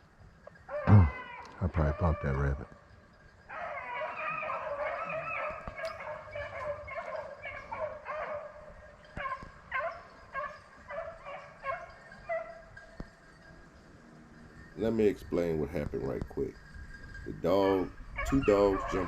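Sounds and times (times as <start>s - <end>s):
hounds baying: 0.5s - 19.0s.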